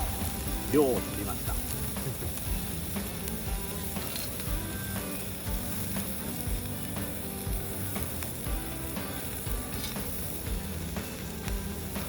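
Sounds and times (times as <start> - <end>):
background music with beat: 0.0 - 12.0
meat sizzling on hot plate: 0.0 - 12.0.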